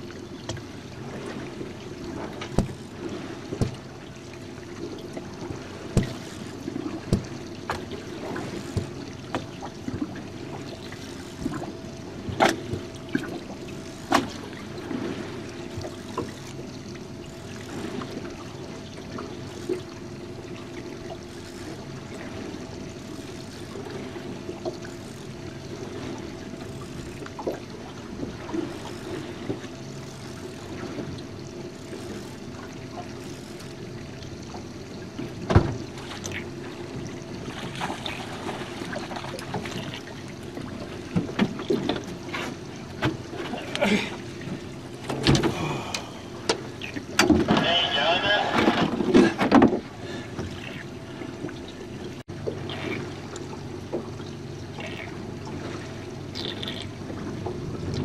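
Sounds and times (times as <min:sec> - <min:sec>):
steady mechanical hum: 0:00.0 - 0:58.0
water lapping against hull: 0:00.0 - 0:58.0.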